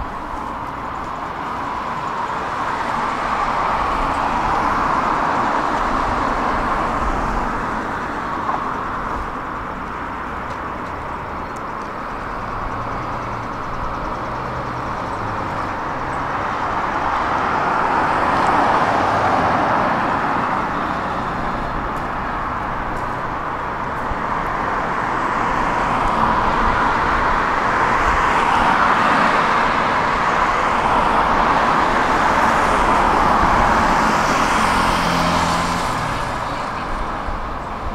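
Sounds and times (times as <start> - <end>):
cars passing: 0.0 - 37.9.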